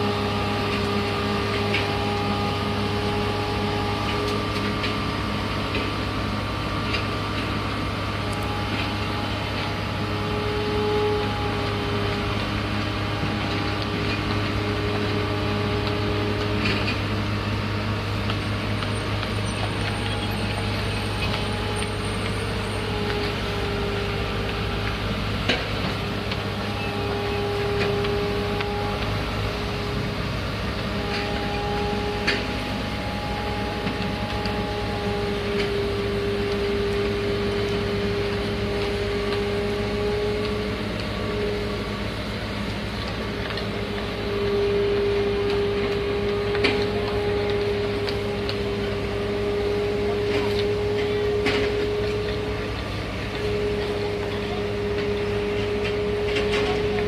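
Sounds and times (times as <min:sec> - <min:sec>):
construction machinery engine drone: 0:00.0 - 0:57.0.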